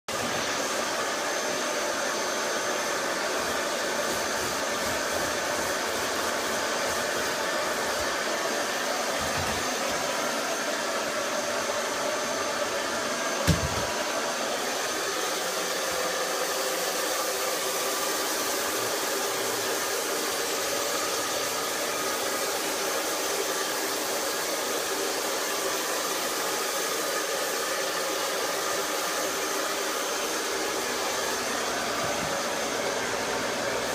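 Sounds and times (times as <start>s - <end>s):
hair dryer running: 0.1s - 33.9s.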